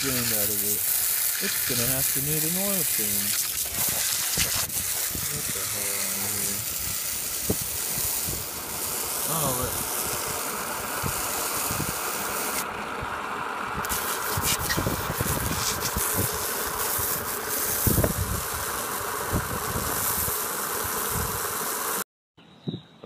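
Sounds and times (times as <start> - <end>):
lawn mower engine buzzing: 0.0 - 22.0.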